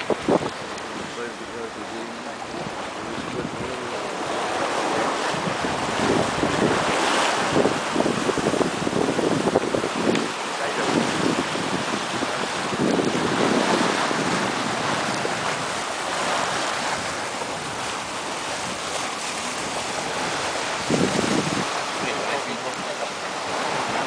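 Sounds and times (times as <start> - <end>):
water rushing along hull: 0.0 - 24.0
wind buffeting microphone: 0.0 - 24.0.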